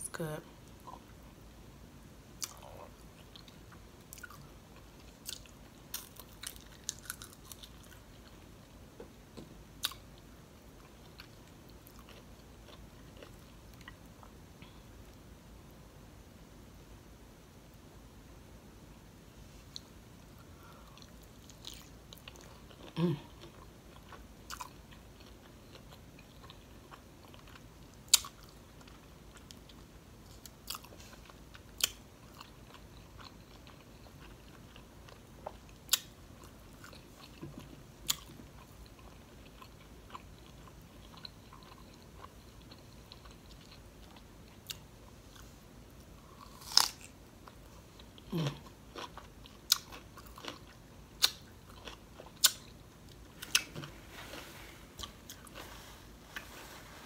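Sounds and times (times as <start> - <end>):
person chewing crunchy food: 2.4 - 9.1, 9.8 - 14.4, 20.5 - 57.0.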